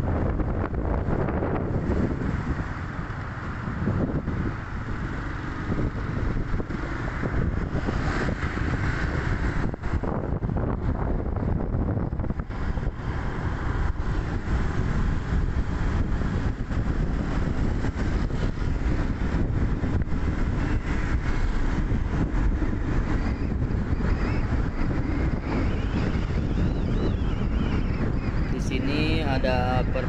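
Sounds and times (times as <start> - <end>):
vehicle road noise: 0.0 - 30.0
wind buffeting microphone: 0.0 - 30.0.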